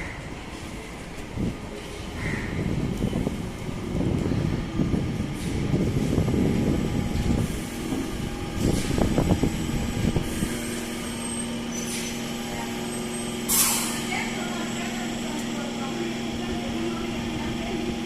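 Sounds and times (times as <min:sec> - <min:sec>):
train rumble with wheel clatter: 0:00.0 - 0:18.0.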